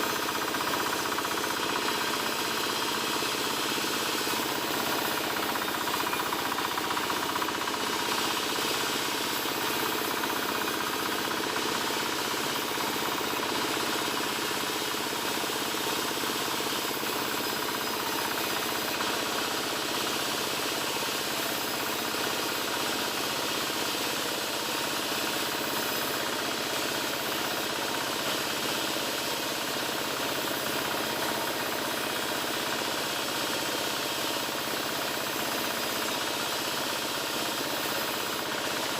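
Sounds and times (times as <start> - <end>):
wood-sawing machine running: 0.0 - 38.9.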